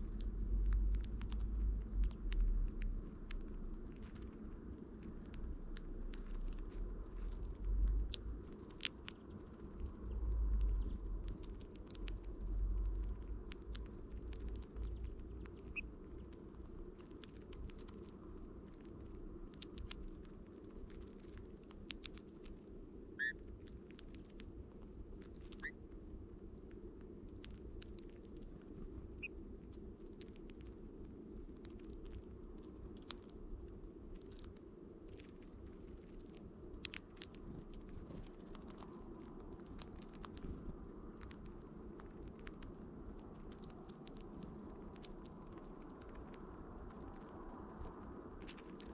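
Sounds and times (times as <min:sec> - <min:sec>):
birds pecking seeds: 0:00.0 - 0:48.9
low rumbles: 0:00.0 - 0:48.9.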